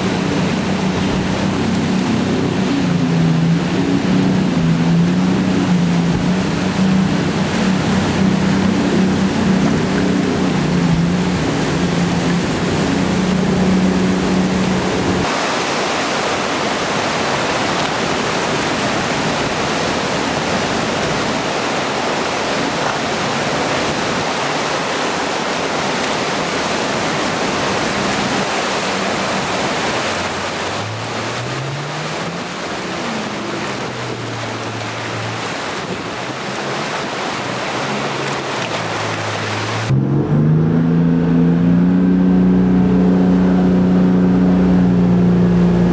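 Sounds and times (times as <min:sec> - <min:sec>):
boat engine running: 0:00.0 - 0:45.9
rushing whitewater: 0:00.0 - 0:45.9.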